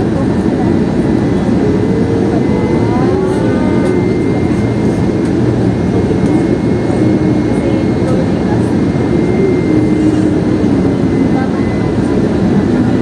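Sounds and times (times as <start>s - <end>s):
faint voices: 0.0s - 13.0s
jet engine and airflow rush: 0.0s - 13.0s
thin steady whine: 0.0s - 13.0s.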